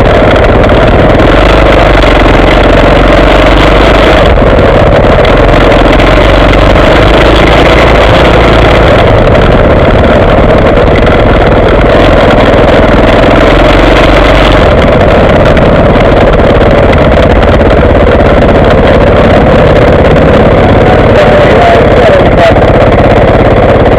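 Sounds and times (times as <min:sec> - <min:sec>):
motorbike engine running: 0:00.0 - 0:23.9.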